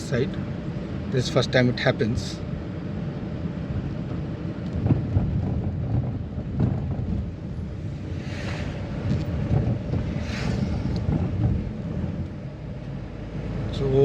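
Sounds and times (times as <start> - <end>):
moving vehicle rumble: 0.0 - 14.0
wind buffeting microphone: 2.1 - 13.6.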